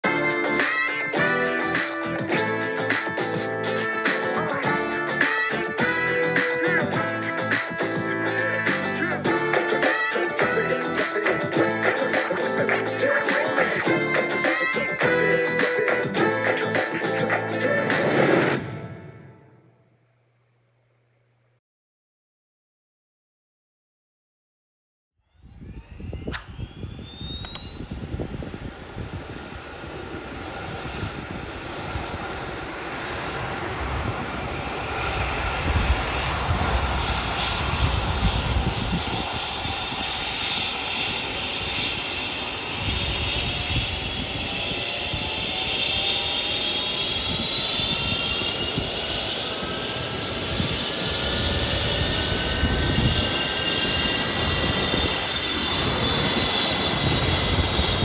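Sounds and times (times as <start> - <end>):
helicopter turbine whine: 0.0 - 19.8, 25.3 - 58.0.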